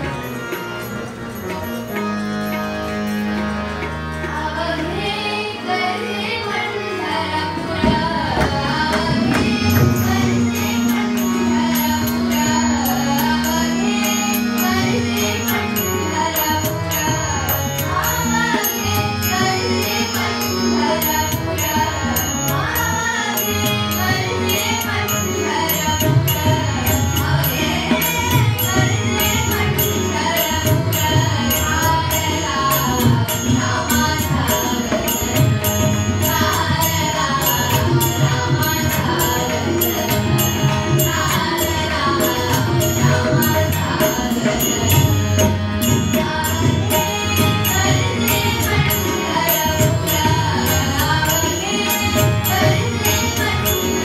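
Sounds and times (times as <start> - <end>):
harmonium: 0.0 - 54.0
tabla beat: 0.0 - 54.0.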